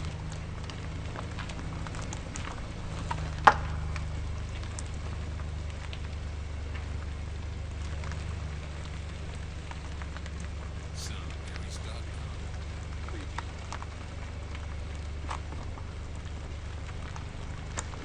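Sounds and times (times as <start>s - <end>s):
car tyres rolling on gravel: 0.0s - 10.9s, 13.4s - 18.0s.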